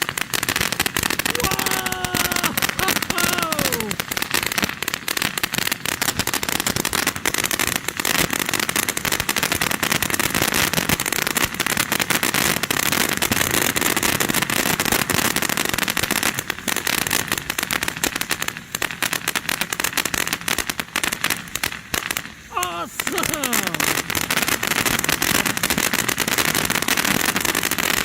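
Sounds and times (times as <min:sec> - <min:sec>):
firework fountain hissing and crackling: 0:00.0 - 0:28.0.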